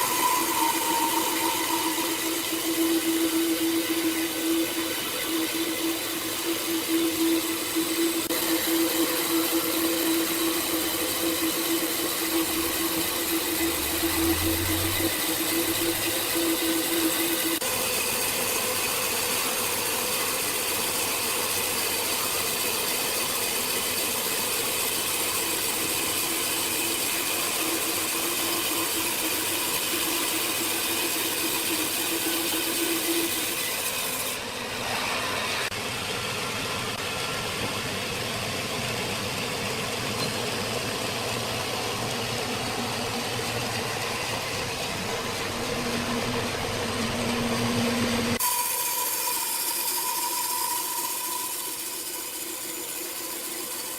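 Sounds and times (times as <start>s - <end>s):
saw cutting wood: 0.0s - 37.2s, 41.6s - 53.9s.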